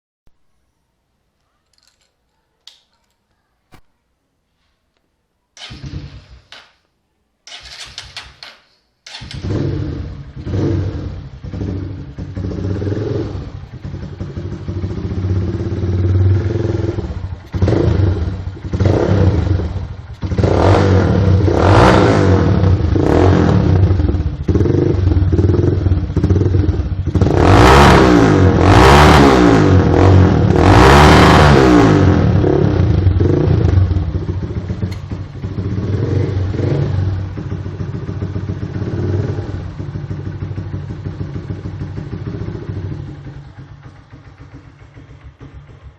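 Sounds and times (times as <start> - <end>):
motorcycle engine revving: 5.6 - 6.7, 9.1 - 45.9
motorcycle engine starting and idling: 5.6 - 45.9.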